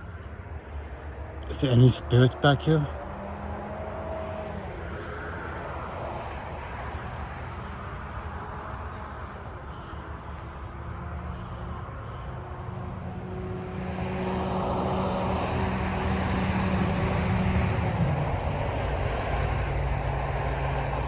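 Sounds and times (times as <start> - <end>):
passing vehicle engine hum: 0.0 - 21.0.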